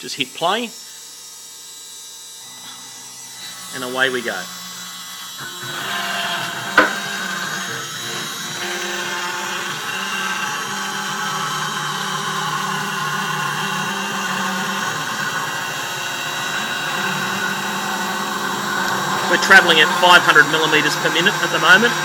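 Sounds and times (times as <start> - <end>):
router whine and cutting noise: 0.0 - 22.0.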